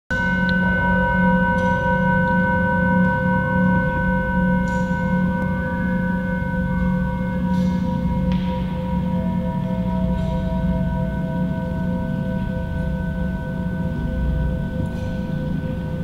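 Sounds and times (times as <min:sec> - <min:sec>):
low pulsing hum: 0:00.1 - 0:16.0
steady high pure tones: 0:00.1 - 0:16.0.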